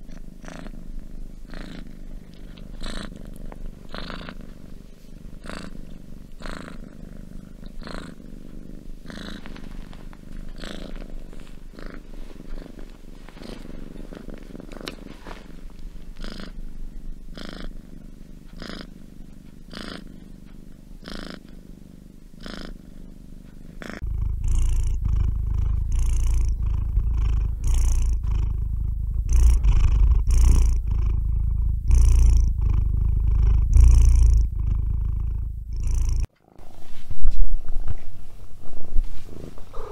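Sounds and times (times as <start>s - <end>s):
kitten purring loudly: 0.0s - 37.9s, 38.6s - 39.9s
cat purring: 0.0s - 39.9s.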